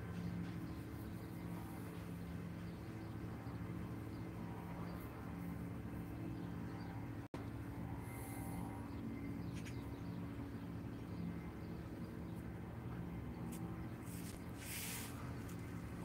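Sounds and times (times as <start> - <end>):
low even hum: 0.0 - 16.0
outdoor background noise: 0.0 - 16.0.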